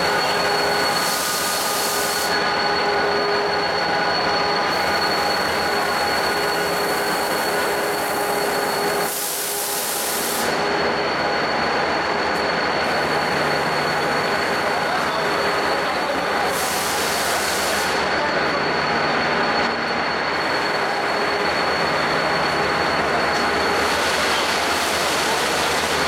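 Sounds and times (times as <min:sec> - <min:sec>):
mechanical drone with whining tones: 0:00.0 - 0:26.0.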